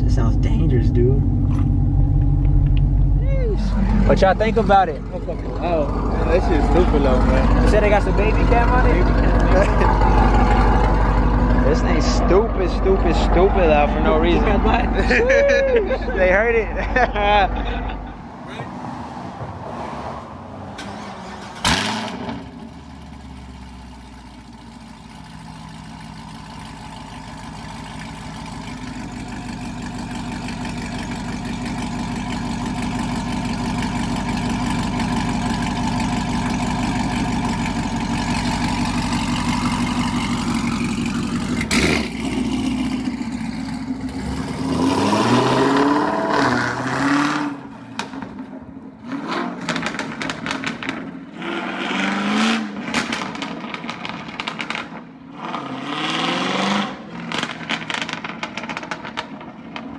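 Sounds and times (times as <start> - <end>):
car engine under throttle: 0.0 - 15.3, 17.2 - 59.9.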